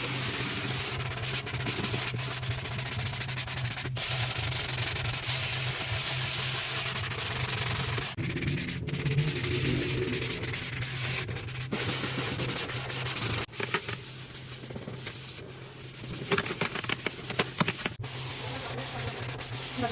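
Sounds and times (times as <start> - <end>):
scrubbing a fridge: 0.0 - 19.9.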